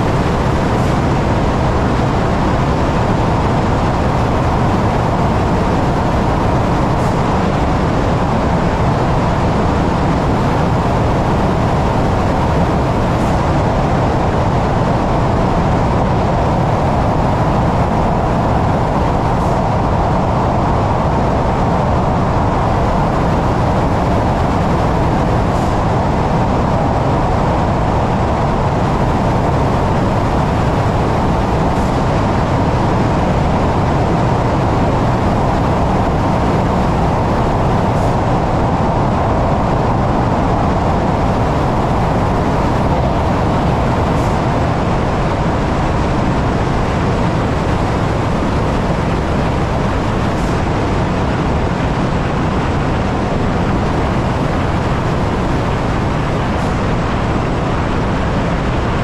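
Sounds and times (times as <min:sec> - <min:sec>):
train rumbling through tunnel: 0:00.0 - 0:59.0.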